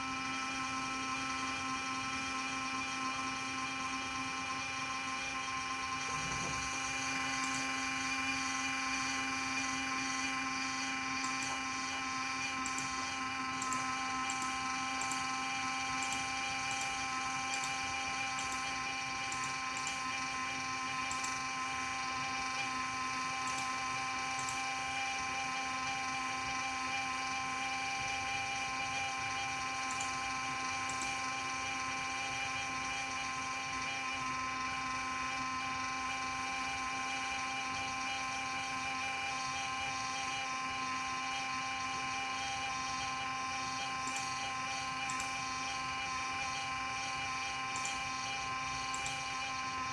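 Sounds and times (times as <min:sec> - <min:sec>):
cooling fan whining: 0:00.0 - 0:49.9.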